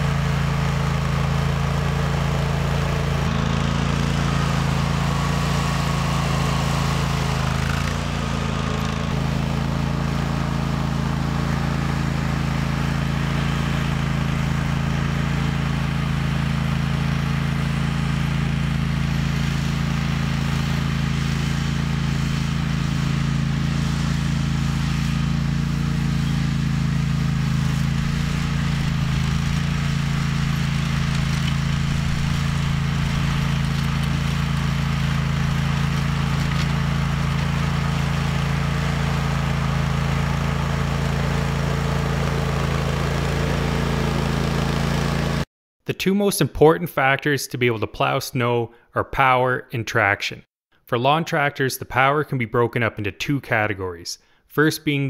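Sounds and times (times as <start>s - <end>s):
lawn tractor engine running: 0.0s - 45.4s.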